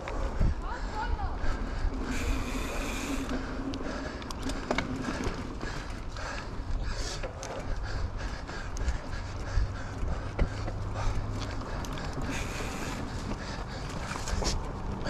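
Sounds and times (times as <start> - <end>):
bike tyres rolling on dirt: 0.0 - 15.0
bicycle chain and frame clicks: 1.4 - 15.0.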